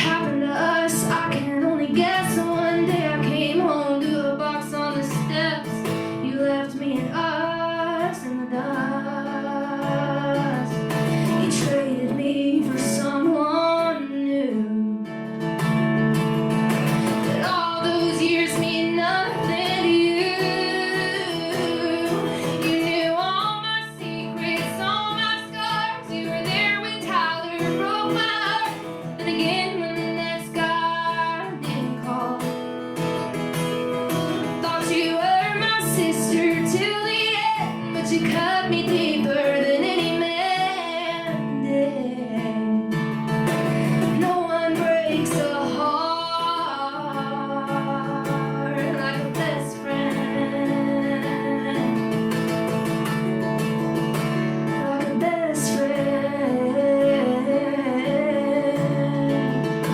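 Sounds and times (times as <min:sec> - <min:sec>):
woman singing: 0:00.0 - 0:15.9, 0:16.6 - 0:59.9
acoustic guitar: 0:00.0 - 0:59.9.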